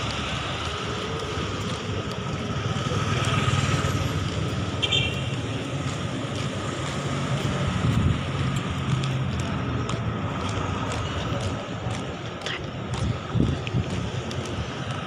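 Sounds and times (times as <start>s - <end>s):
traffic engines passing: 0.0s - 15.0s.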